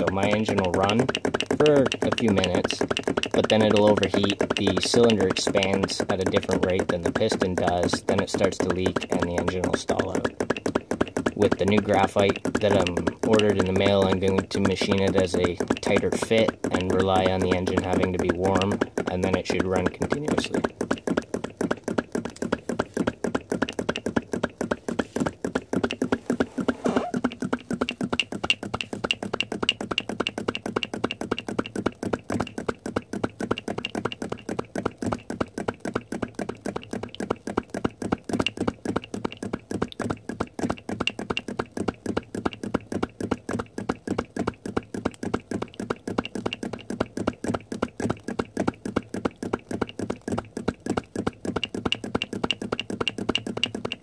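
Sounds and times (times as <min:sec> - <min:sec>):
small engine rapid clacking: 0:00.0 - 0:54.0.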